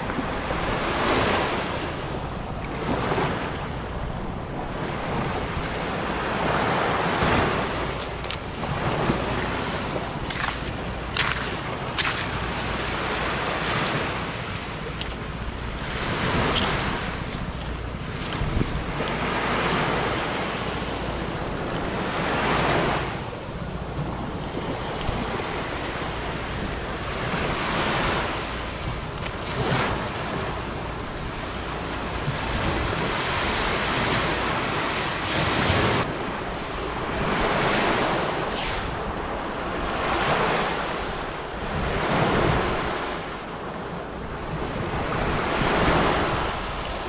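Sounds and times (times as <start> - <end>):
surf washing up beach: 0.0 - 47.0
wind rumbling on microphone: 0.0 - 47.0.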